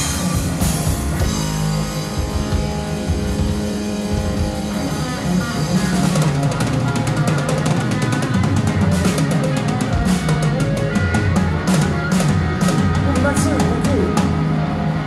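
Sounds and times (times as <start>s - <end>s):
drum rolls: 0.0s - 14.7s
live rock band playing: 0.0s - 15.0s.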